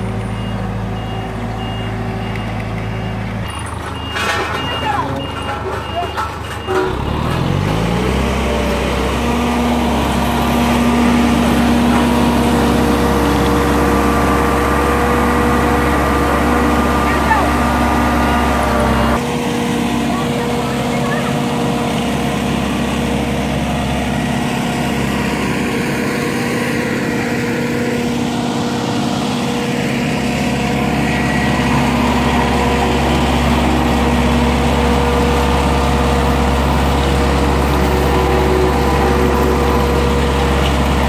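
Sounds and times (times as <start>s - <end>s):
road roller diesel engine: 0.0s - 41.0s.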